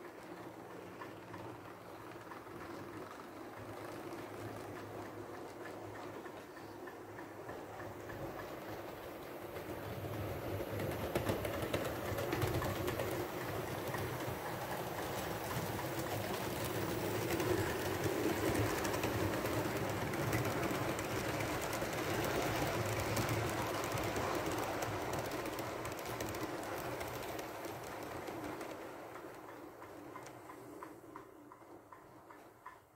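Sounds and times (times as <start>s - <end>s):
wheels clicking over rail joints: 0.0s - 32.9s.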